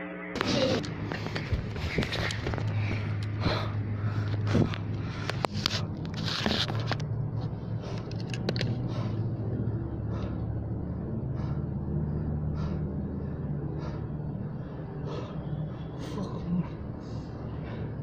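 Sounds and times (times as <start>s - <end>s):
low hum: 0.0s - 18.0s
quick breaths: 1.0s - 18.0s.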